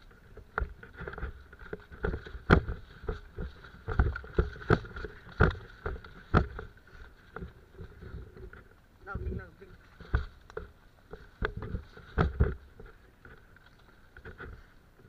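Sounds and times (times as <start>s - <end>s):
branches swishing and knocking: 0.0s - 8.7s, 9.7s - 14.8s
footsteps through brush: 0.0s - 15.0s.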